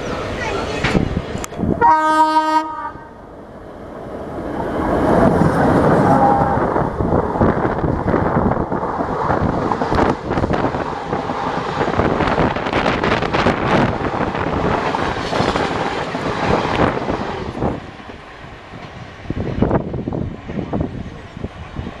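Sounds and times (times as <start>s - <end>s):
wind buffeting microphone: 0.0s - 1.9s, 3.9s - 22.0s.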